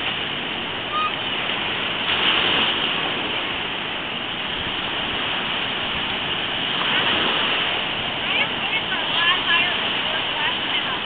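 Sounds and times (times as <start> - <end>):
surf breaking over rocks: 0.0 - 11.0.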